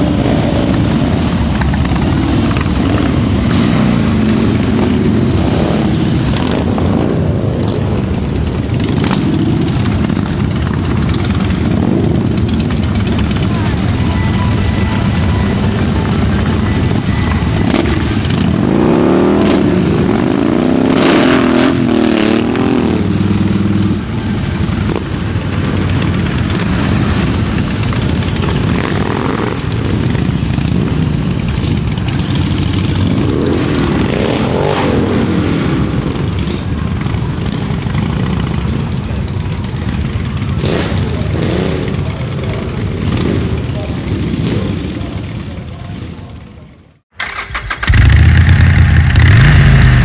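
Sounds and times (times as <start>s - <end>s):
motorcycles revving: 0.0s - 50.0s
motorcycles rumbling past: 0.0s - 50.0s.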